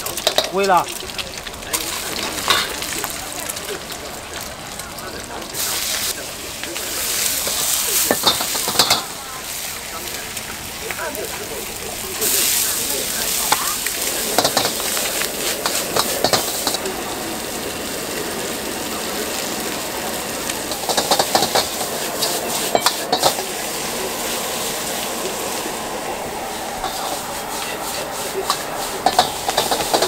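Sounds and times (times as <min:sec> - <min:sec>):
noodles sizzling in a wok: 0:00.0 - 0:30.0.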